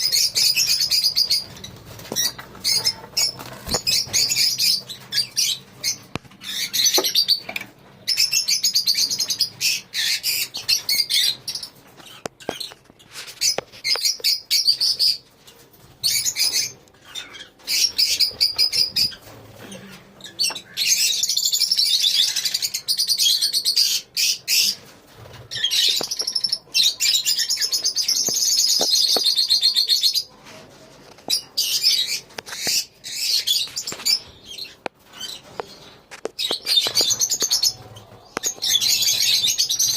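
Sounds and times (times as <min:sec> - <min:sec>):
lovebirds chattering: 0:00.0 - 0:30.3, 0:31.2 - 0:39.9.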